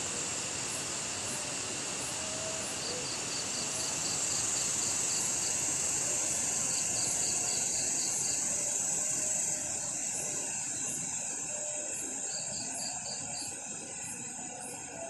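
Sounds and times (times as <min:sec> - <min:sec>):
night insects droning: 0:00.0 - 0:15.0
rapid cricket chirps: 0:00.0 - 0:15.0.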